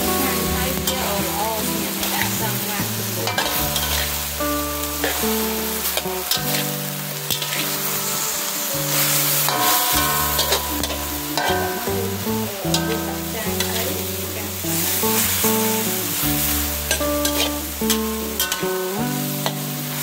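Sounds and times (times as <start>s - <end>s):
food sizzling in oil: 0.0s - 20.0s
plucked guitar music: 0.0s - 20.0s
metal spatula scraping a wok: 0.2s - 18.8s.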